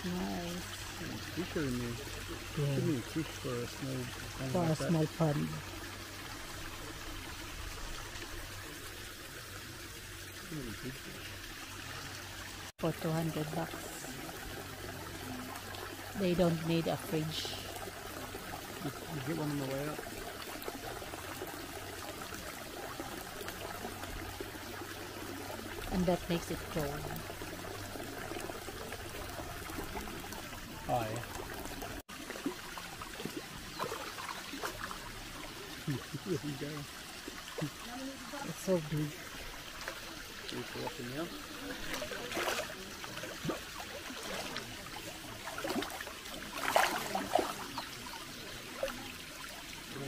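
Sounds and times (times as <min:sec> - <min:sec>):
trickling water: 0:00.0 - 0:50.0.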